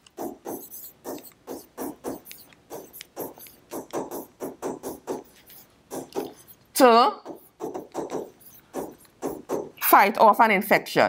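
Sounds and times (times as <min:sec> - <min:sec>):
stylus scratching on touchscreen: 0:00.0 - 0:06.6, 0:07.2 - 0:09.9.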